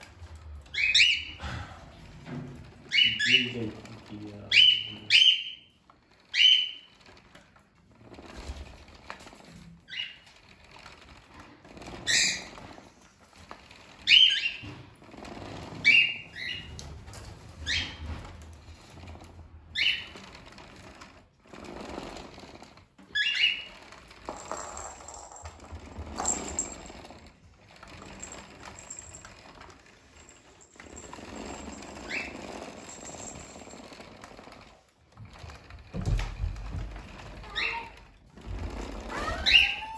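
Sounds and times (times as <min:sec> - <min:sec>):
rustling and scraping: 0:00.0 - 0:04.6, 0:05.8 - 0:39.9.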